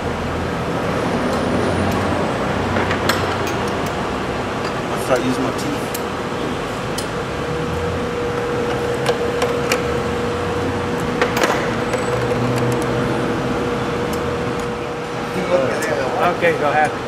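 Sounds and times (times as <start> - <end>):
workshop hum: 0.0 - 17.0.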